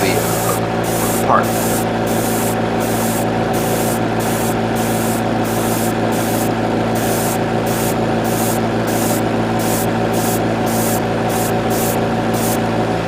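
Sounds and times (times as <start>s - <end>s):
airbrush spraying hisses: 0.0s - 12.6s
air compressor hum: 0.0s - 13.0s.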